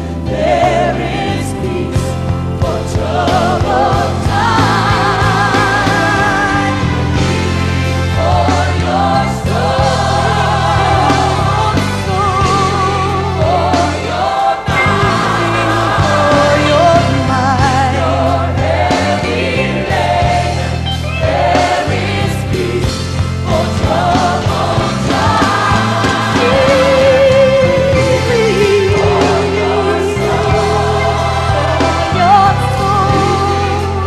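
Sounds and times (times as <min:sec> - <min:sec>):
choir singing: 0:00.0 - 0:34.0
band with heavy bass: 0:00.8 - 0:34.0.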